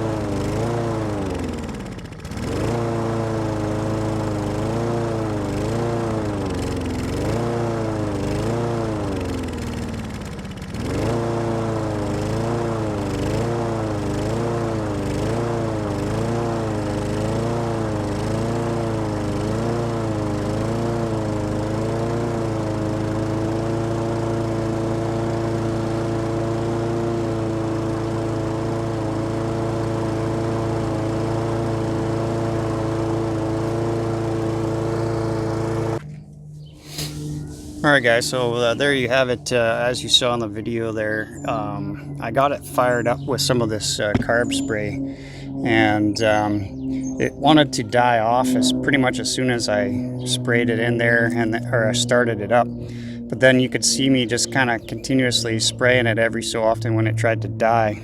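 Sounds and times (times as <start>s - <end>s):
lawn mower engine hunting: 0.0s - 58.0s.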